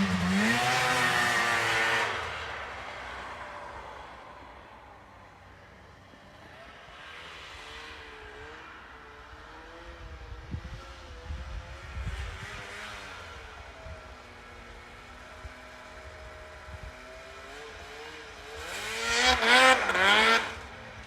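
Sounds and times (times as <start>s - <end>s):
distant snowmobile engine: 0.0s - 21.0s.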